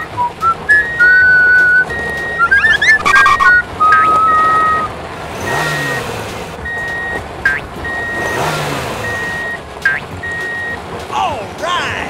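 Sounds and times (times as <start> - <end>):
reversing alarm beeping: 0.0 - 10.8
low vehicle rumble: 0.0 - 12.0.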